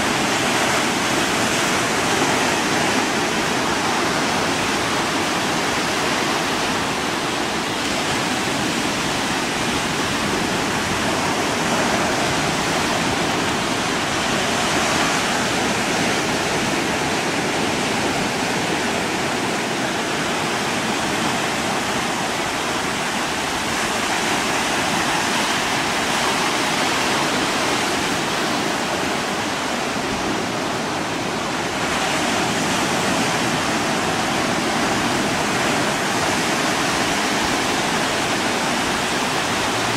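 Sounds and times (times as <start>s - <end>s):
steady rushing noise: 0.0s - 39.9s.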